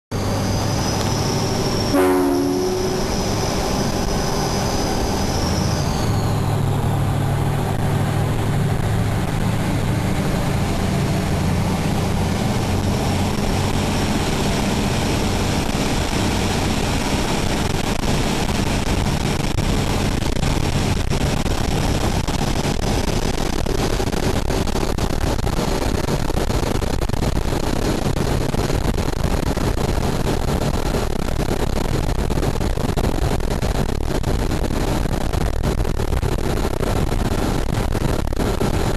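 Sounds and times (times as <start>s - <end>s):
boat engines running: 0.1s - 38.9s
high whine: 0.1s - 38.9s
low hum: 0.1s - 38.9s
wind noise: 0.1s - 38.9s.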